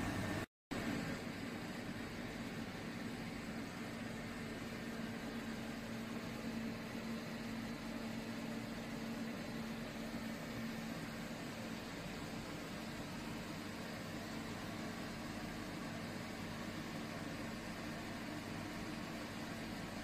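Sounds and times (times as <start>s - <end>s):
machining center mechanical hum: 0.0s - 20.0s.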